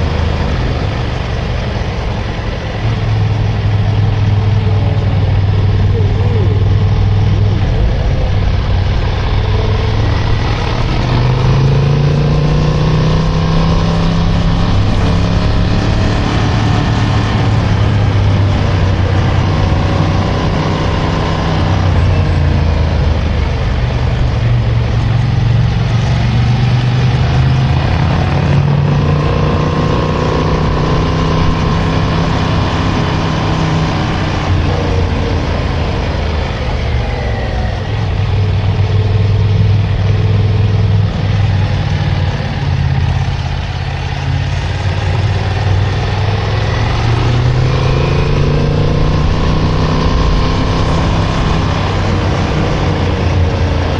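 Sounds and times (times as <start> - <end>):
motorcycle engine running: 0.0 - 53.9
steady rushing noise: 0.0 - 53.9.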